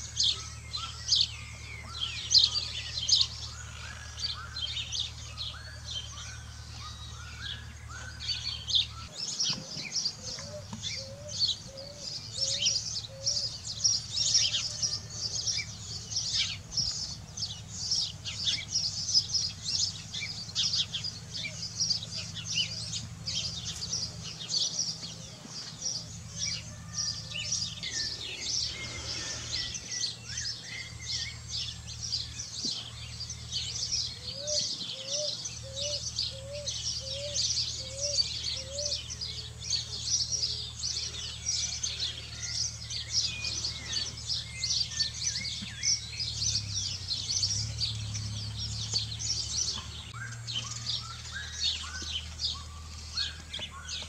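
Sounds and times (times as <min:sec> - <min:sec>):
lower rising bird calls: 0:00.0 - 0:54.0
small birds chirping in chorus: 0:00.0 - 0:54.0.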